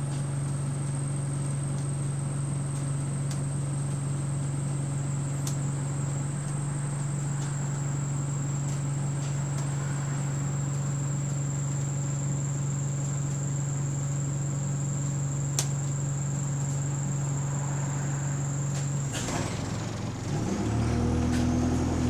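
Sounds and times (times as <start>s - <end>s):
bus interior drone: 0.0s - 22.0s.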